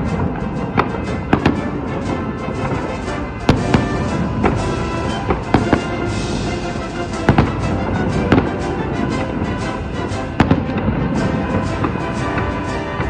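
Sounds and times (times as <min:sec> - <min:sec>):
fireworks bangs: 0:00.0 - 0:13.0
music with sustained notes: 0:00.0 - 0:13.0.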